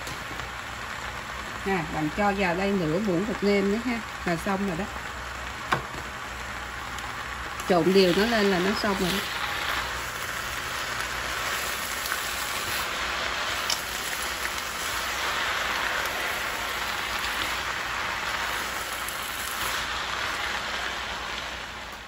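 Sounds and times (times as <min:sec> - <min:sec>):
noodles sizzling in a pan: 0:00.0 - 0:22.0.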